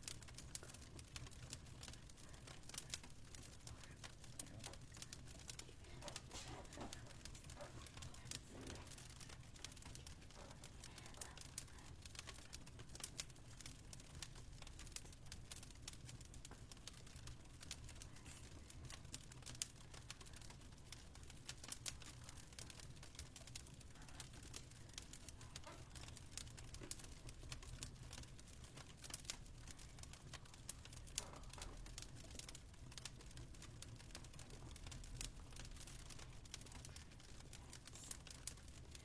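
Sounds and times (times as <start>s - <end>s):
wood fire crackling faintly: 0.0s - 39.0s.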